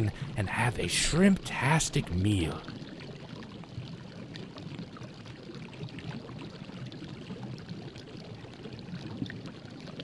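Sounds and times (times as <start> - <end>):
liquid bubbling and fizzing: 0.0 - 10.0.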